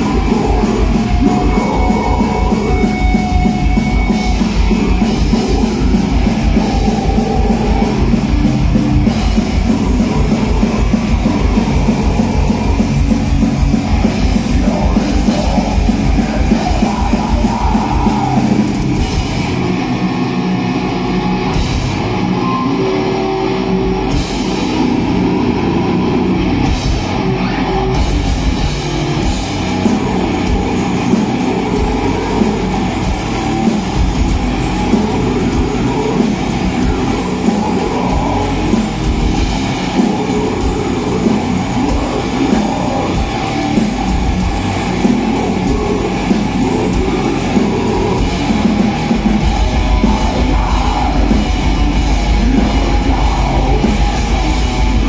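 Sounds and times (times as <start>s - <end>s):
fast dense drumming: 0.0s - 22.4s, 24.0s - 55.0s
bass guitar: 0.0s - 55.0s
electric guitars: 0.0s - 55.0s.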